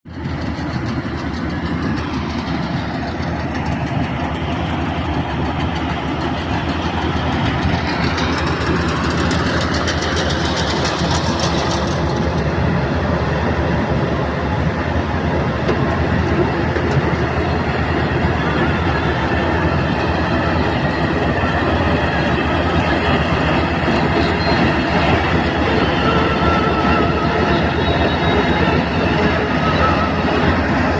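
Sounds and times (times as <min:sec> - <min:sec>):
combine harvester running: 0:00.1 - 0:30.9.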